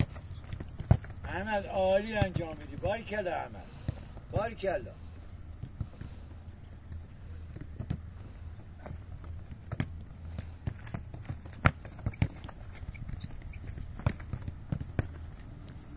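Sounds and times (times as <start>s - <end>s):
footballs being kicked: 0.0s - 4.7s, 5.4s - 6.2s, 7.4s - 15.9s.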